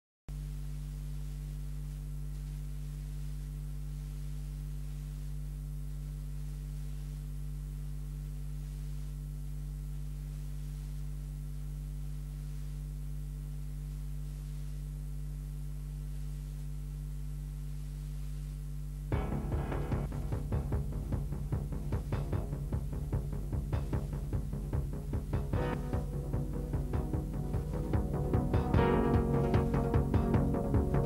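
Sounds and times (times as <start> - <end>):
steady low hum: 0.3 - 31.0.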